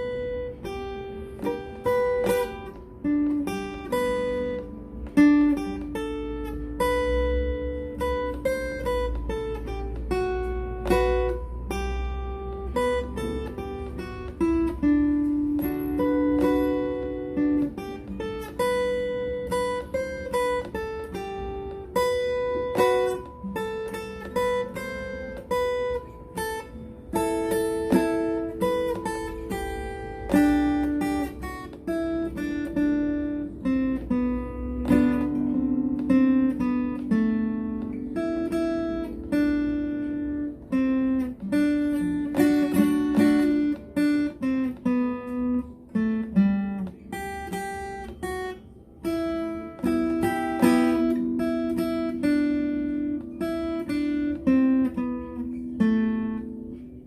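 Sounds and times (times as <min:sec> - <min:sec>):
guitar picking melodic lead: 0:00.0 - 0:57.0.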